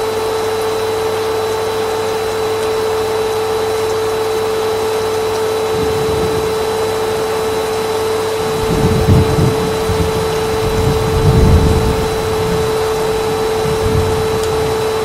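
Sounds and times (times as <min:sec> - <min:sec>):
vacuum cleaner running: 0:00.0 - 0:15.0
low rumble of nozzle on floor: 0:02.5 - 0:15.0.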